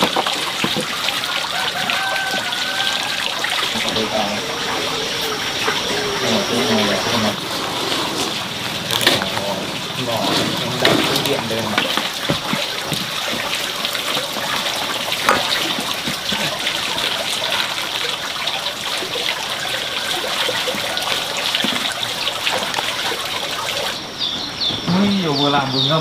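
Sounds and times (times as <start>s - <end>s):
water running and splashing: 0.0s - 24.0s.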